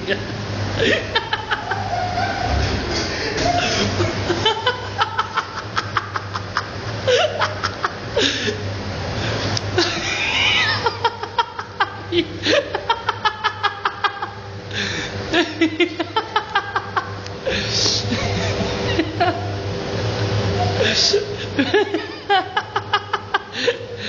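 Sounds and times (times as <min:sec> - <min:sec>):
people laughing hard: 0:00.0 - 0:08.7, 0:09.8 - 0:24.0
steady low hum: 0:00.0 - 0:24.0.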